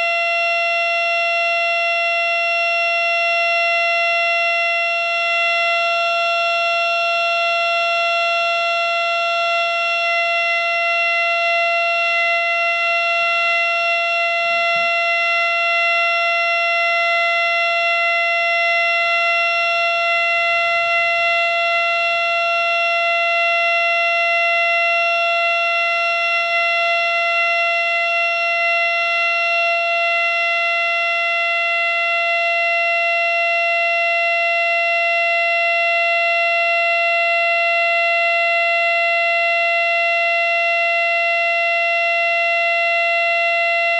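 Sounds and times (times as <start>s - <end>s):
siren wailing: 0.0s - 0.2s, 3.6s - 43.9s.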